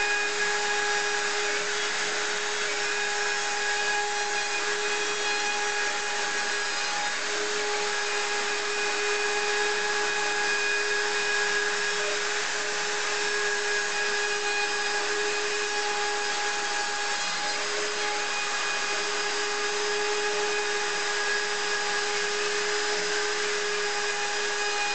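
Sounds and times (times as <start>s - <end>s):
router spindle motor whining: 0.0s - 24.9s.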